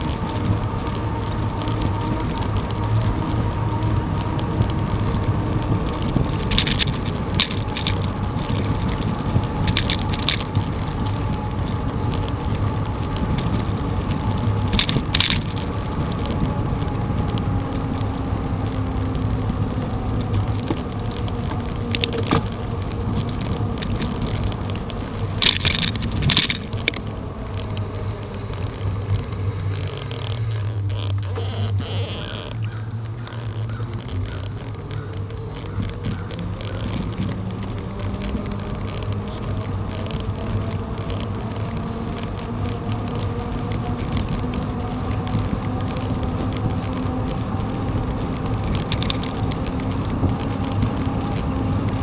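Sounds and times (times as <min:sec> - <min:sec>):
bicycle rattling: 0:00.0 - 0:52.0
tyres rumbling on asphalt: 0:00.0 - 0:52.0
wind: 0:00.0 - 0:52.0.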